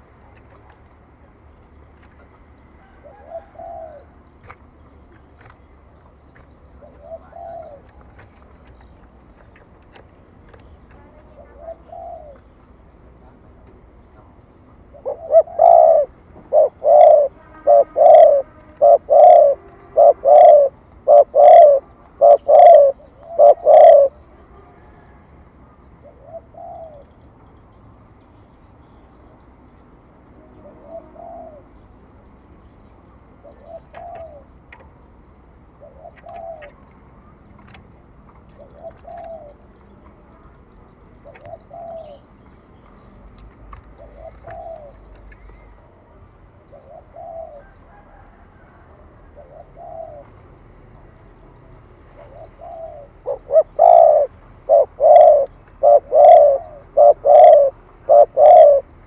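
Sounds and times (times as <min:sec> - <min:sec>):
dove cooing: 0:00.0 - 0:27.2, 0:30.6 - 0:31.8, 0:33.4 - 0:35.0, 0:35.7 - 0:42.6, 0:43.7 - 0:45.7, 0:46.4 - 0:50.5, 0:52.1 - 0:59.0.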